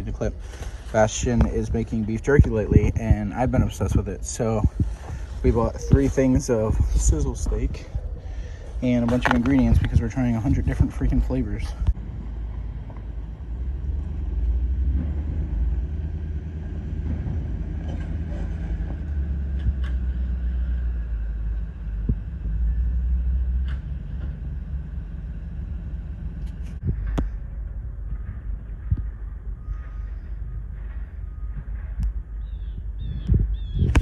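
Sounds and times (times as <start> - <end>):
car rumbling while driving: 0.0 - 34.0.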